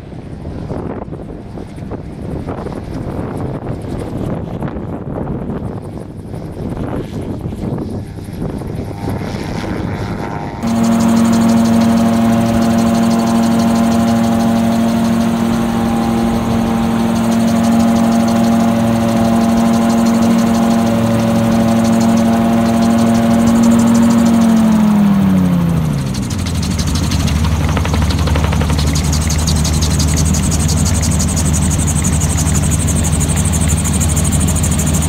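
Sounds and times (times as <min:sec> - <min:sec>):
aircraft engine and propeller droning: 0:00.0 - 0:35.0
wind: 0:00.0 - 0:35.0.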